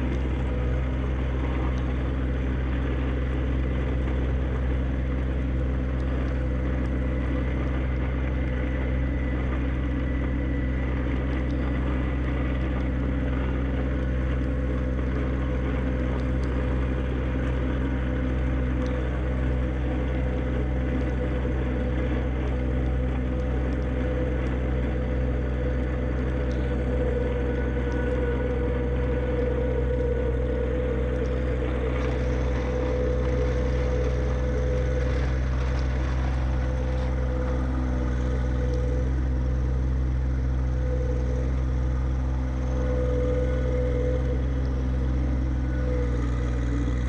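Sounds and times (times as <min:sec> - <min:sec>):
steady whine: 0:00.0 - 0:47.0
tractor diesel engine running: 0:00.0 - 0:47.0.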